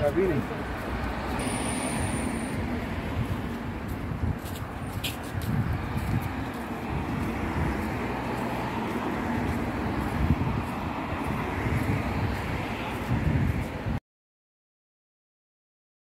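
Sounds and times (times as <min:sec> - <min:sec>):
cars passing: 0:00.0 - 0:14.0
wind rumbling on microphone: 0:00.0 - 0:14.0.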